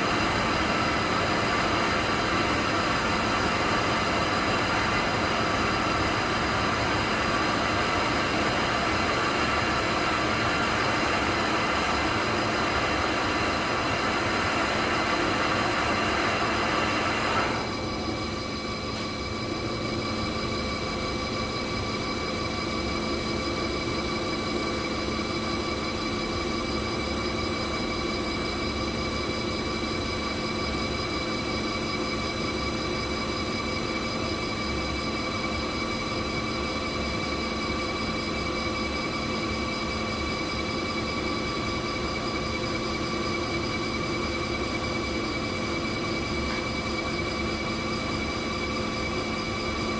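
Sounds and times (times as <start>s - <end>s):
machinery humming: 0.0s - 49.9s.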